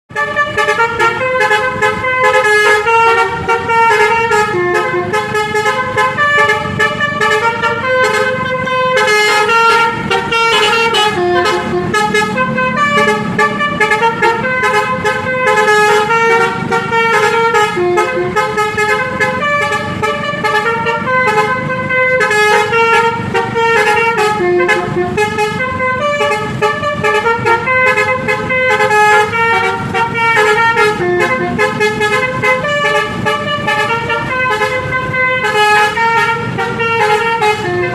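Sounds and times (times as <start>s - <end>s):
multi-tone air horn melody: 0.1s - 37.9s.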